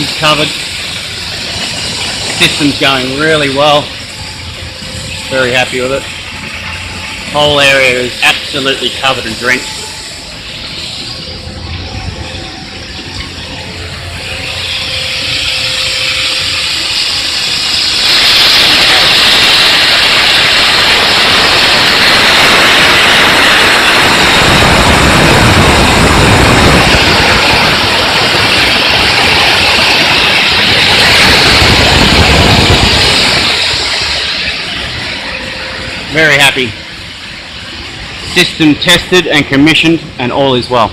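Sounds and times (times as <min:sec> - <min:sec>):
low rumbling: 0:00.0 - 0:40.9.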